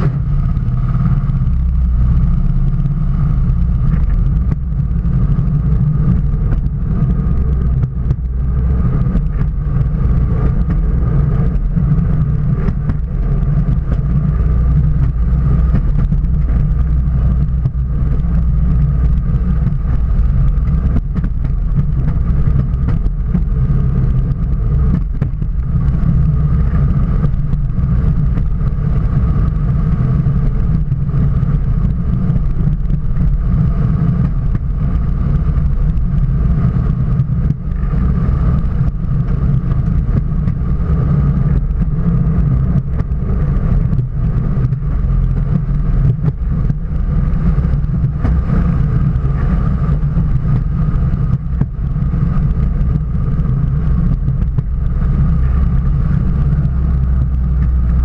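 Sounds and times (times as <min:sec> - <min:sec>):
faint steady whine: 0:00.0 - 0:58.0
rail vehicle engine drone: 0:00.0 - 0:58.0
wheels rolling on rails: 0:00.0 - 0:58.0.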